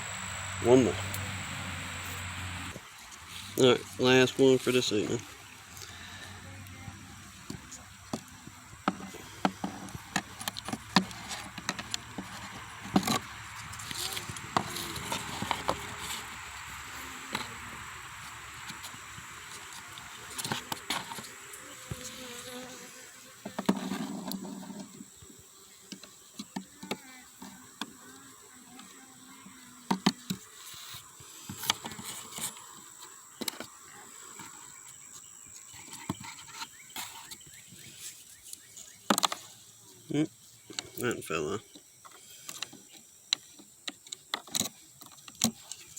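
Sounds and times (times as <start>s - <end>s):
honey bees buzzing: 0.0s - 41.6s.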